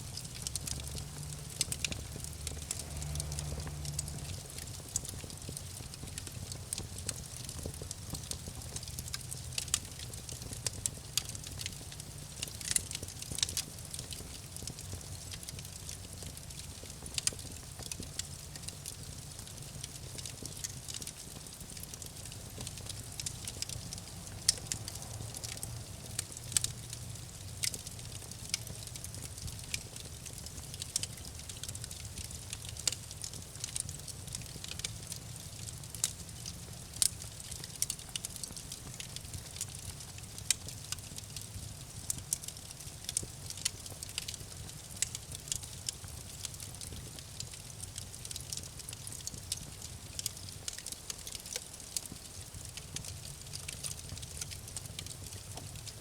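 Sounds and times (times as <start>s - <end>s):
low rumble of flames: 0.0s - 56.0s.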